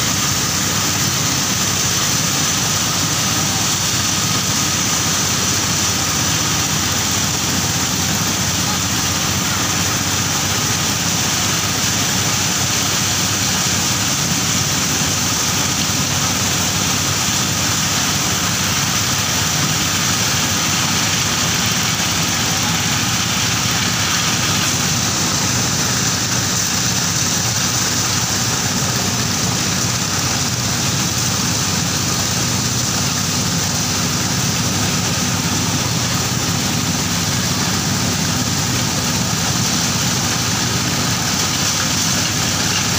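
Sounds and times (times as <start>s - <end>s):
corn mill engine drone: 0.0s - 42.9s
mill grinding hiss: 0.0s - 42.9s.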